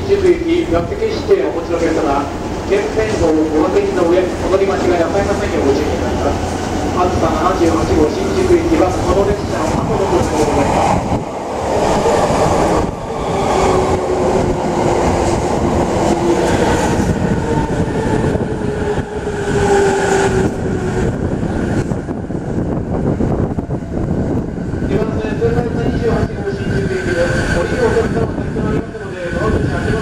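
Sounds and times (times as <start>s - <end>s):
train rolling rumble: 0.0s - 30.0s.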